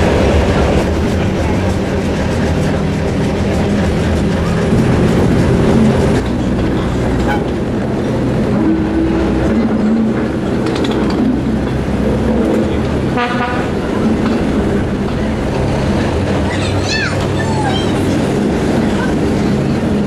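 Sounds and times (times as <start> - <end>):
diesel train engine humming: 0.0 - 20.0.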